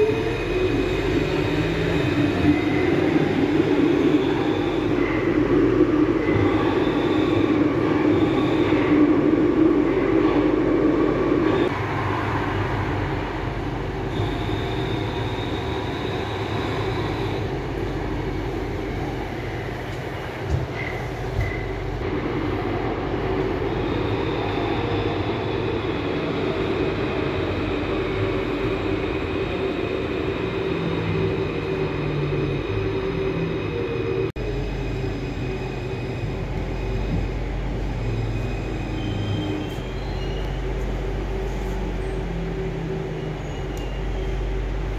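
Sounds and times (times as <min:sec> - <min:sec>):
low train roar: 0:00.0 - 0:44.9
metro train rumble: 0:00.0 - 0:44.9.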